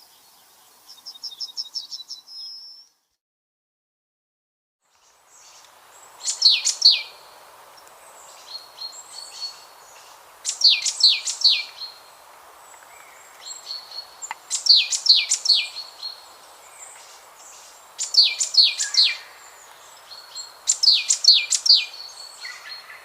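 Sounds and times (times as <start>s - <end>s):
outdoor background hiss: 0.0s - 3.2s, 4.8s - 23.0s.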